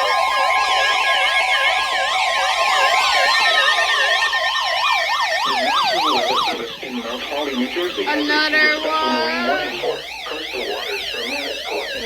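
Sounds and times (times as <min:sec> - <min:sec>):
electronic sirens sweeping: 0:00.0 - 0:12.0
steady alert tones: 0:00.0 - 0:12.0.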